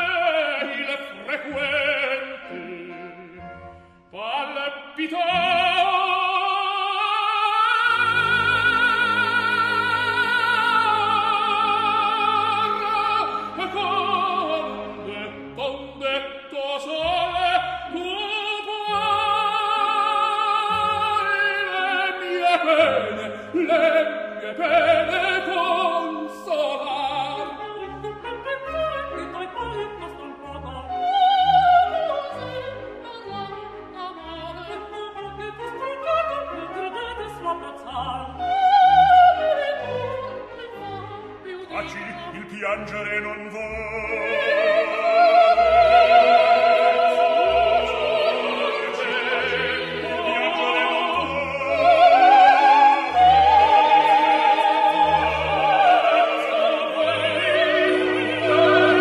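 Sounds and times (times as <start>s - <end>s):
operatic singer with vibrato: 0.0s - 59.0s
orchestra: 0.0s - 59.0s.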